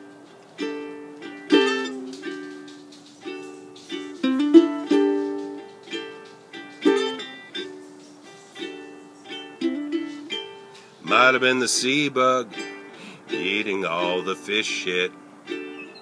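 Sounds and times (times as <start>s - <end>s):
ukulele chords: 0.0s - 16.0s.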